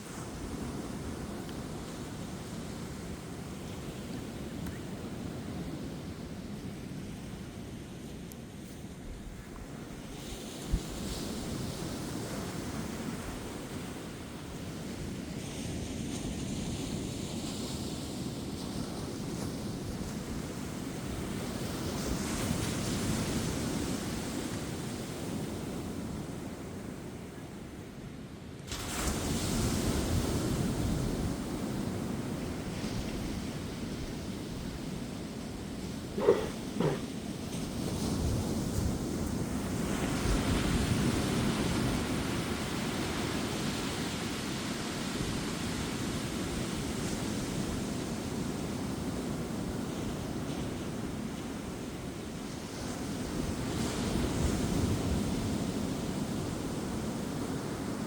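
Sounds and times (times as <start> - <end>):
ocean waves breaking on beach: 0.0 - 27.8, 28.6 - 58.0.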